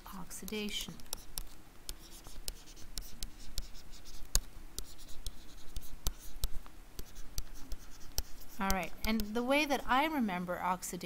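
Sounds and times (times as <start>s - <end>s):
stylus tapping and scratching on tablet: 0.0s - 10.1s.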